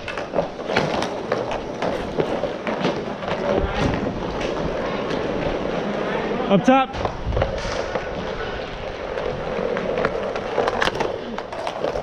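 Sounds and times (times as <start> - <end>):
hockey sticks and puck clacking: 0.0 - 6.1, 6.9 - 12.0
inline skate wheels rolling: 0.0 - 12.0.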